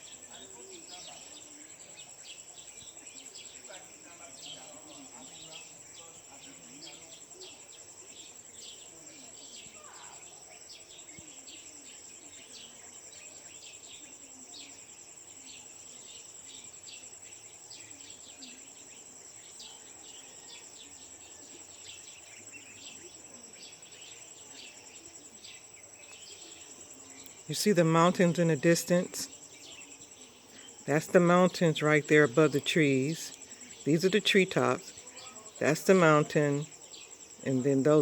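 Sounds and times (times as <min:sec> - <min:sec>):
high-pitched insect trill: 0:00.0 - 0:38.0.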